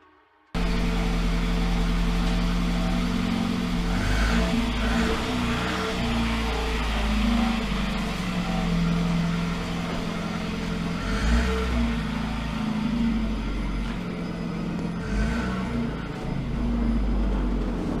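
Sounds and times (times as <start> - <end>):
car engine running: 0.6 - 18.0
low road rumble: 0.6 - 18.0.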